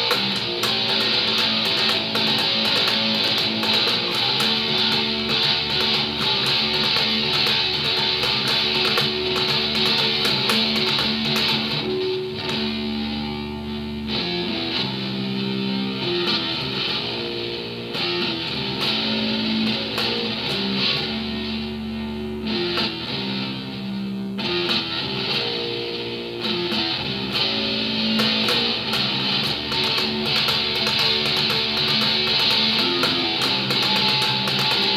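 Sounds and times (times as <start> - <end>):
electric bass guitar: 0.0 - 34.9
music with guitar: 0.0 - 34.9.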